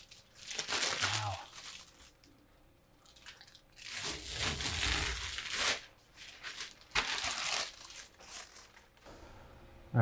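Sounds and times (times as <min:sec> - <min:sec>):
plastic film peeling and crinkling: 0:00.0 - 0:02.4, 0:03.0 - 0:09.1.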